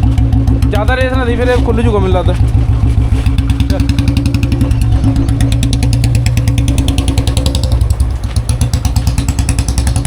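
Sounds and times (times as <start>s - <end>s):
motorcycle engine exhaust thumping: 0.0s - 10.0s.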